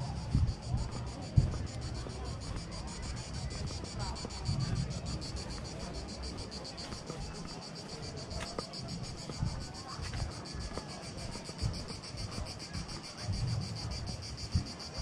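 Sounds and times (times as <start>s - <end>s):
wind on microphone: 0.0s - 15.0s
footsteps thumping: 0.1s - 13.5s.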